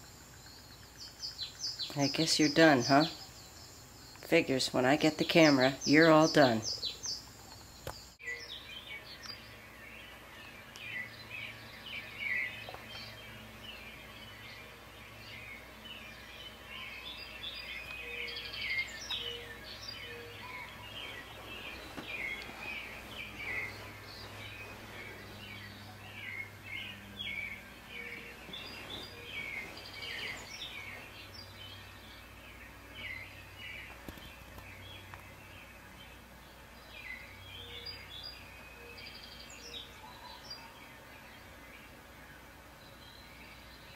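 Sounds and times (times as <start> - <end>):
songbirds chirping through tv speakers: 0.0 - 43.9.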